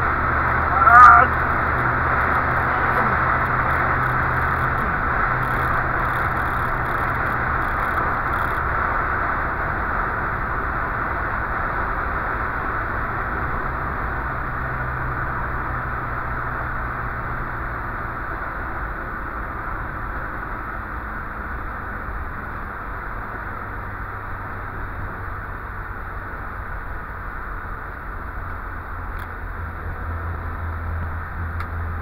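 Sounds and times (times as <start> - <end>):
car engine running: 0.0 - 32.0
road and wind noise: 0.0 - 32.0.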